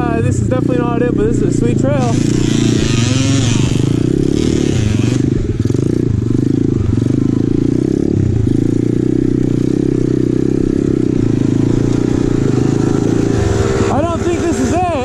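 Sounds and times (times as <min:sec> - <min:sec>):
motorbike engine under throttle: 0:00.0 - 0:15.0.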